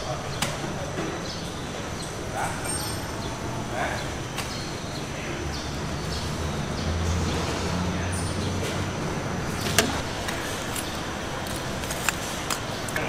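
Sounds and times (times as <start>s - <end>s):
low engine-like hum: 1.5s - 13.0s.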